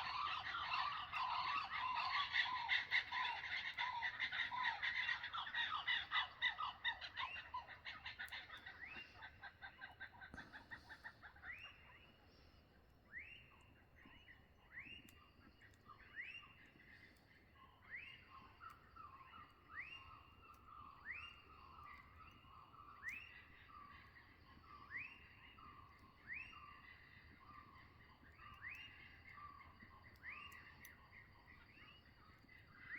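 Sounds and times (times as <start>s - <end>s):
lower bird calls: 0.0s - 32.9s.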